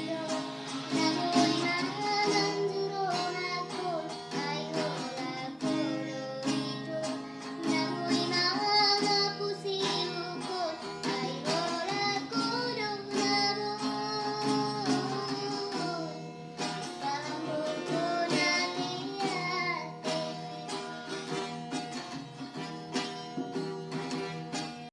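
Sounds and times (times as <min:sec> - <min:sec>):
person singing: 0:00.0 - 0:22.2
plucked acoustic guitar: 0:00.0 - 0:24.9.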